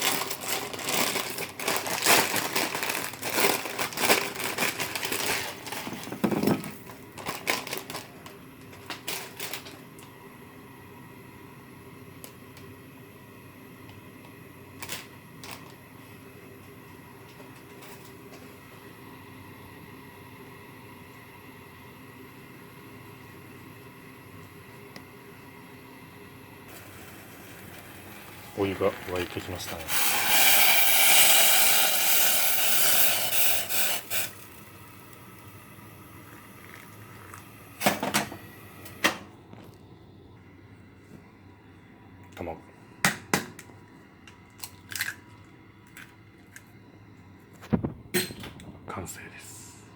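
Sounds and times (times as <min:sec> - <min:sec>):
steady hum: 0:00.0 - 0:49.9.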